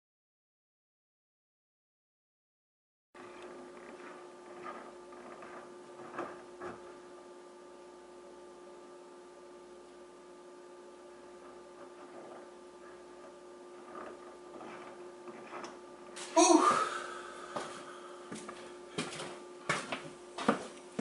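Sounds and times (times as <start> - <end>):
faint hum: 3.2 - 21.0.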